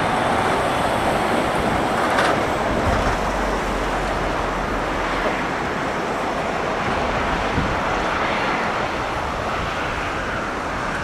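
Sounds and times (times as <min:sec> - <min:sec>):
jet engines rushing: 0:00.0 - 0:11.0
wind on microphone: 0:00.0 - 0:11.0.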